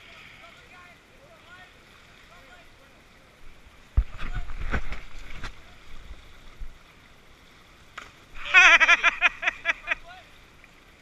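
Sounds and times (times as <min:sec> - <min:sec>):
river water: 0:00.0 - 0:11.0.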